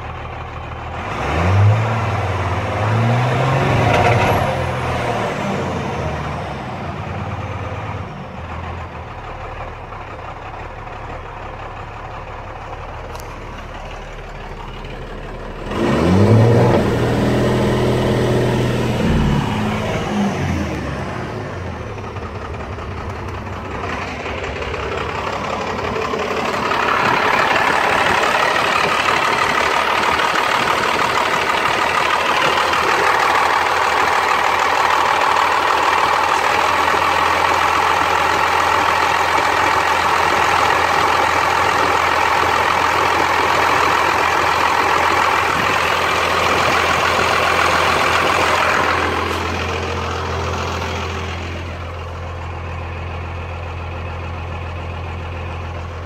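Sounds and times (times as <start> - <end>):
diesel engine idling roughly: 0.0 - 56.0.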